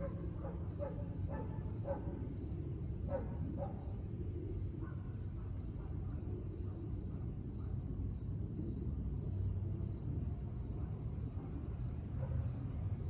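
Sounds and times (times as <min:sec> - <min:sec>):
constant high buzz: 0:00.0 - 0:13.0.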